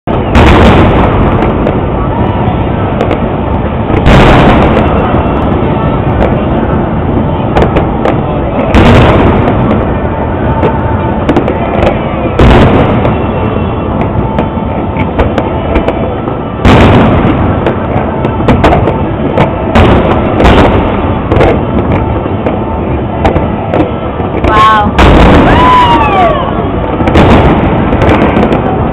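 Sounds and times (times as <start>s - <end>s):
smaller firework bangs and rumble: 0.0s - 28.9s
firework shell bursts booming: 0.1s - 2.2s, 2.8s - 26.2s.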